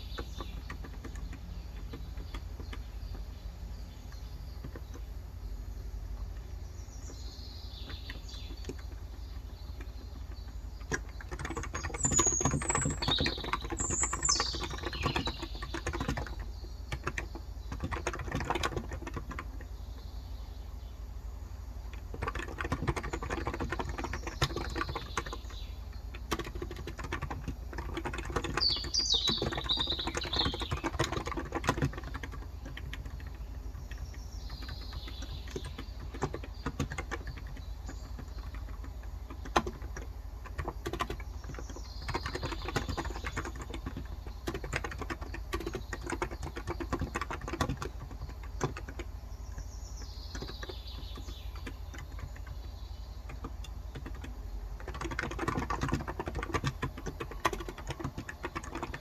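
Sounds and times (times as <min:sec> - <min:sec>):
birds chirping: 0:00.0 - 0:59.0
low steady hum: 0:00.0 - 0:59.0
keyboard typing: 0:07.8 - 0:19.7, 0:21.9 - 0:49.6, 0:50.3 - 0:52.6, 0:53.2 - 0:59.0.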